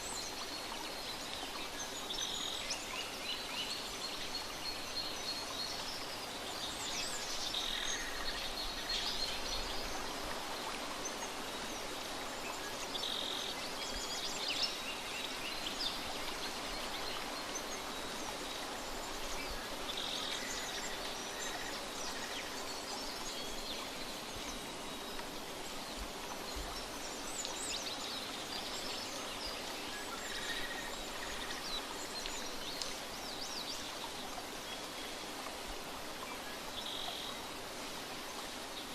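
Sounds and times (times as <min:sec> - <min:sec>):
flowing water hiss: 0:00.0 - 0:38.9.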